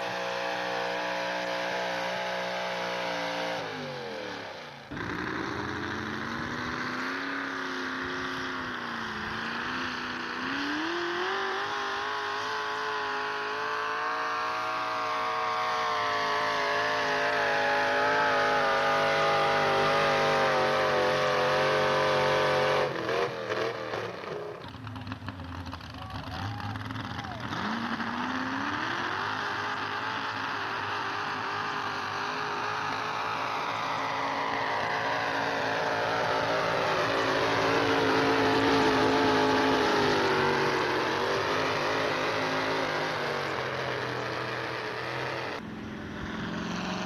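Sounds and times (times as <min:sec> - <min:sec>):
truck engine revving under load: 0:00.0 - 0:47.0.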